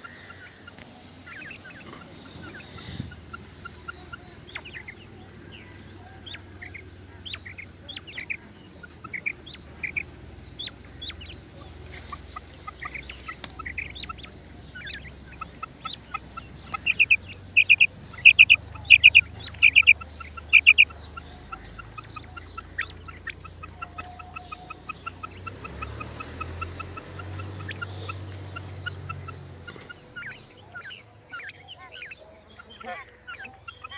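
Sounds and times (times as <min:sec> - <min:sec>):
quail calling: 0:00.0 - 0:33.9
soft ticking notes: 0:00.0 - 0:33.9.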